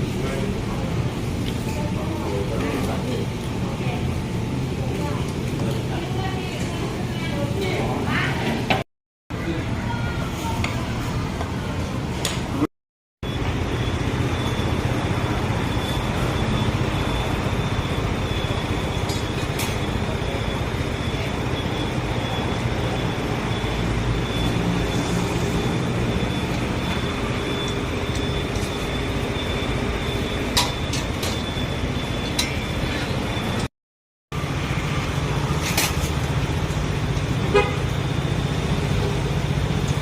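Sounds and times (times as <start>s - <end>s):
street traffic rumble: 0.0s - 33.7s, 34.3s - 40.0s.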